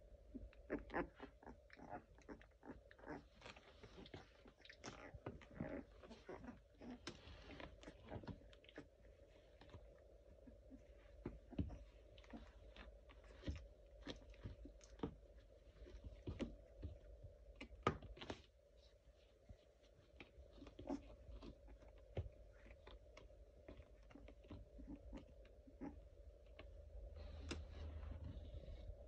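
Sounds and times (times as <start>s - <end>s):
faint steady hum: 0.0s - 29.0s
puppies shuffling and mouthing: 0.2s - 29.0s.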